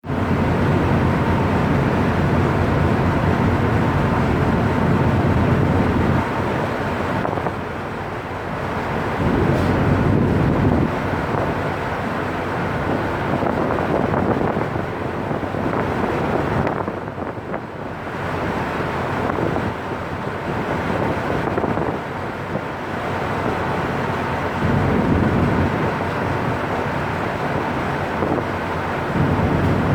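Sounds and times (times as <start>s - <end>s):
steady rushing noise: 0.0s - 29.9s
wind buffeting microphone: 0.0s - 29.9s.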